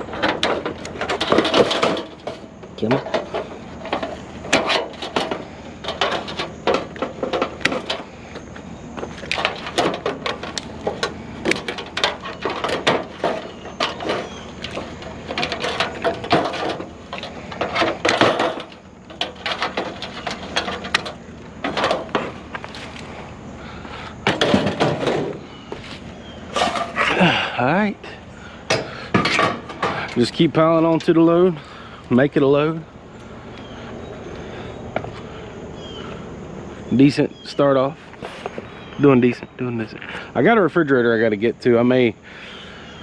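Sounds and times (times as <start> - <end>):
junk items clattering: 0.0 - 40.7.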